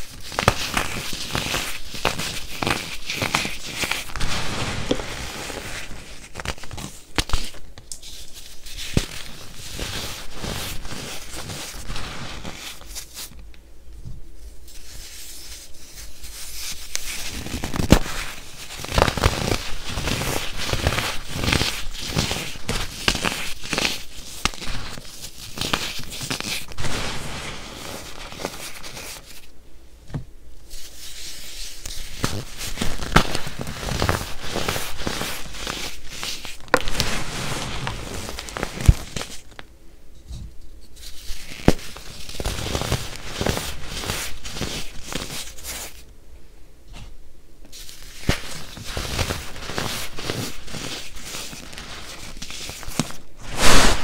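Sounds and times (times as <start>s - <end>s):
hands crushing baking soda: 0.0s - 13.3s, 14.7s - 29.5s, 30.7s - 39.6s, 41.0s - 46.0s, 47.7s - 54.0s.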